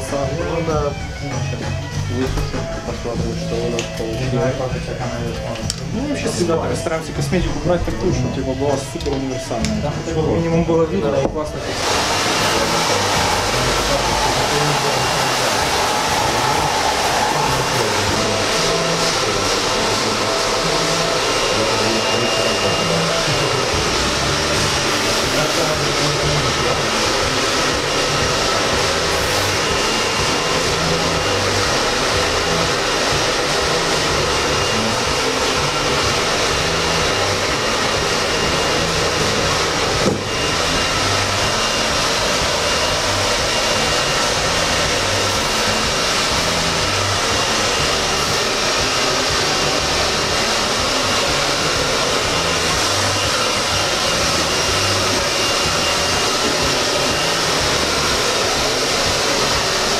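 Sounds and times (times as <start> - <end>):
hair dryer blowing: 0.0 - 9.9, 10.7 - 59.9.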